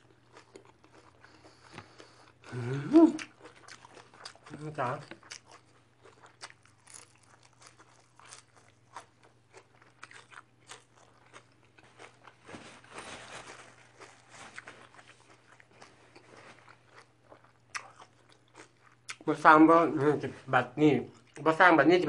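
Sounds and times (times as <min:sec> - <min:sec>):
chewing crunchy greens: 0:00.0 - 0:20.2, 0:21.0 - 0:22.0
faint steady hum: 0:00.0 - 0:22.0.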